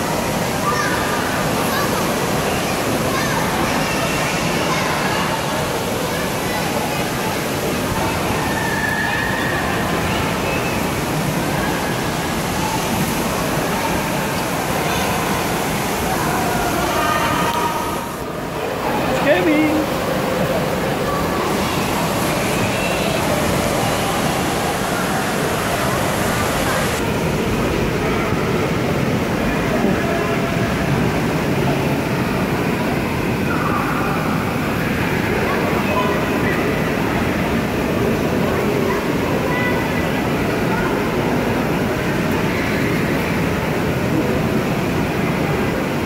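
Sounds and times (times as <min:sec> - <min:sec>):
distant echoing voices: 0:00.0 - 0:19.2, 0:19.8 - 0:46.0
busy indoor hall din: 0:00.0 - 0:46.0
water rushing: 0:00.0 - 0:46.0.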